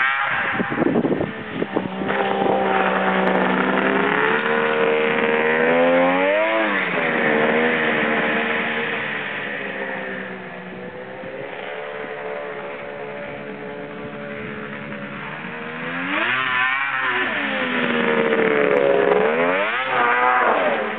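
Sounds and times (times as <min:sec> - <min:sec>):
snowmobile engine revving: 0:00.0 - 0:20.9.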